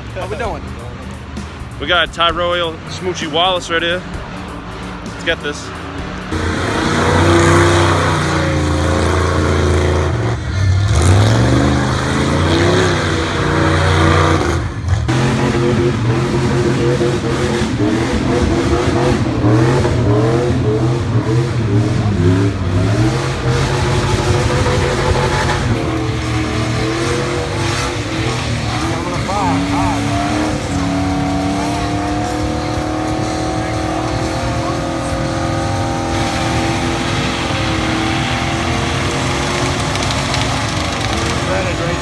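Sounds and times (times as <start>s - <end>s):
car engine revving hard: 1.9s - 42.0s.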